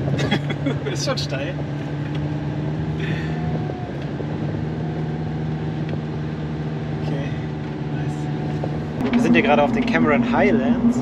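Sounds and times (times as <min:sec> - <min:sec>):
diesel engine drone under load: 0:00.0 - 0:11.0.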